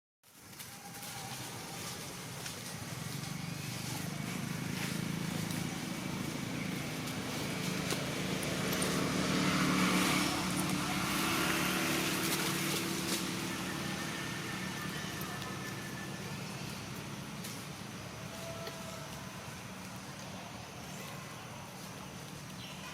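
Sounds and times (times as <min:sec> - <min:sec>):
vehicle engine running: 0:00.4 - 0:22.9.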